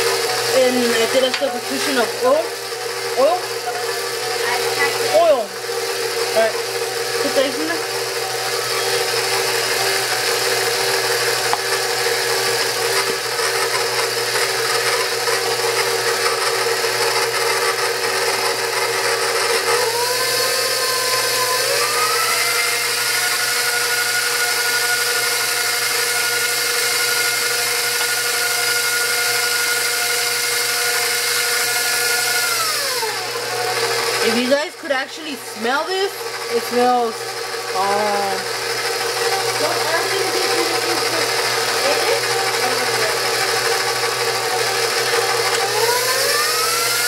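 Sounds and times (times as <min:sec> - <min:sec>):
stand mixer motor running: 0:00.0 - 0:47.0.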